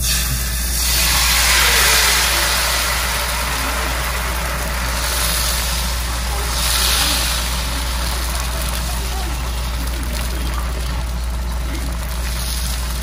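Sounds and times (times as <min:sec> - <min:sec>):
batter sizzling in hot oil: 0:00.0 - 0:13.0
steady low hum: 0:00.0 - 0:13.0.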